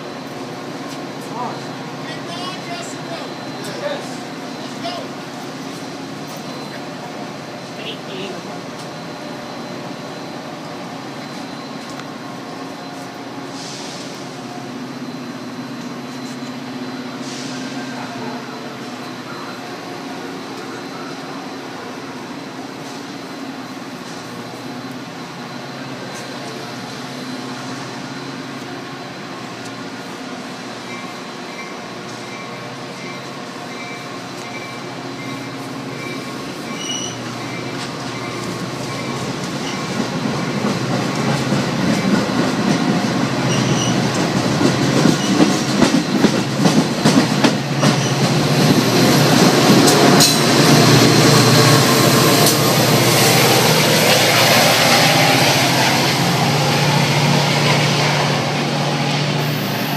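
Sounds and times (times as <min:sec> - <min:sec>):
diesel train engine drone: 0:00.0 - 0:59.9
rail noise: 0:00.0 - 0:59.9
train wheel clicks and squeals: 0:02.4 - 0:07.3, 0:08.2 - 0:56.9.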